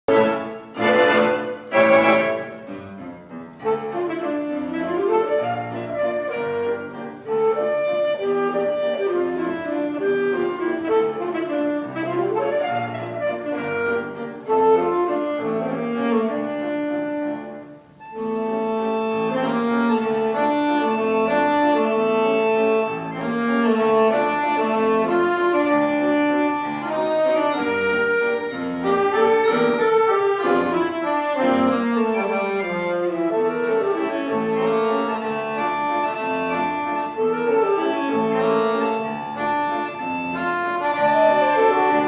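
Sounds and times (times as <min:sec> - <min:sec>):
saxophone melody: 0:00.0 - 0:42.0
piano accompaniment: 0:00.1 - 0:42.0.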